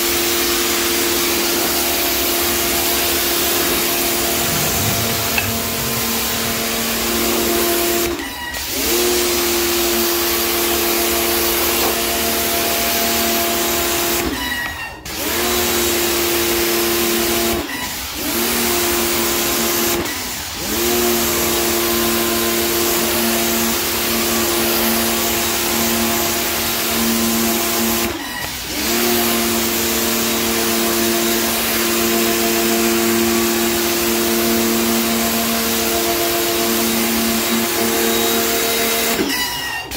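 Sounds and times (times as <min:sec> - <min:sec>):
pressure washer motor humming: 0:00.0 - 0:14.2, 0:15.2 - 0:39.3
water jet spraying floor tiles: 0:00.0 - 0:39.9.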